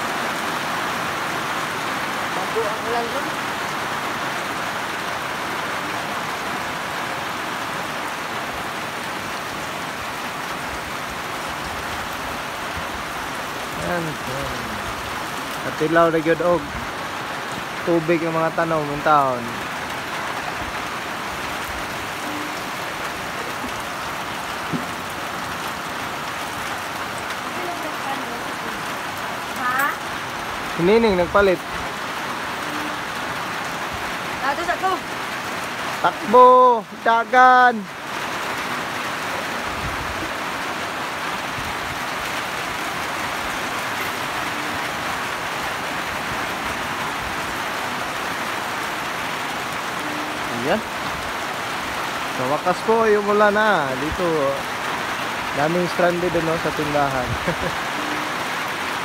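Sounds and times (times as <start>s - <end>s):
heavy rain on puddles and foliage: 0.0s - 59.0s.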